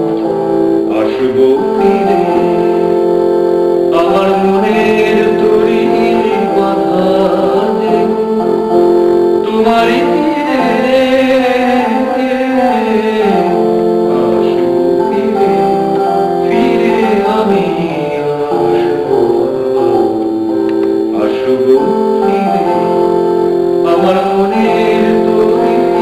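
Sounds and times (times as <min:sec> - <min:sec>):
electronic keyboard chords: 0:00.0 - 0:26.0
man singing: 0:00.0 - 0:26.0.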